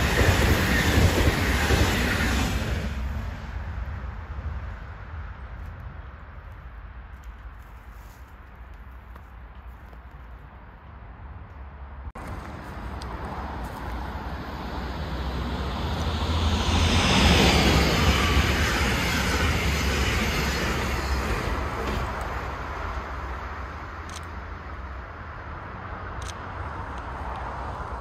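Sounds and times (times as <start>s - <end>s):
train passing with deep rumble: 0.0s - 28.0s.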